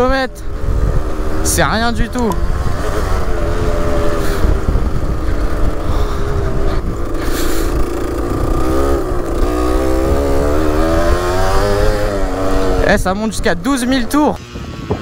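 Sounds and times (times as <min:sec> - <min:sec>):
wind rumble on microphone: 0:00.0 - 0:13.7, 0:14.3 - 0:15.0
dirt bike engine revving: 0:00.0 - 0:14.4.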